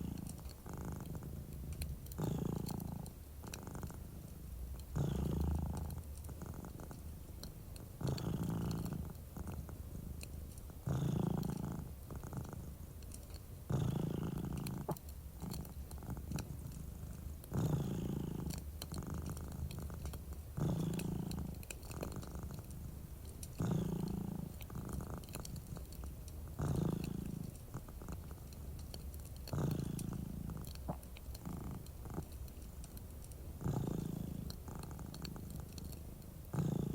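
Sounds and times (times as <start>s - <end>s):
cat purring: 0.0s - 36.9s
fireplace crackling: 0.0s - 36.9s.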